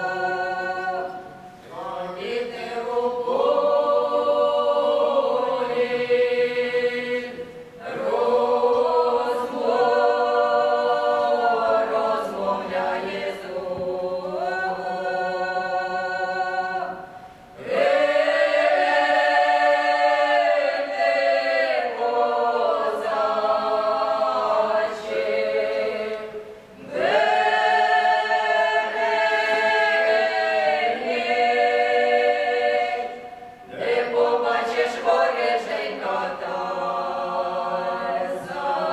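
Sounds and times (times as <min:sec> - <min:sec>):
mixed choir singing a cappella: 0:00.0 - 0:38.9.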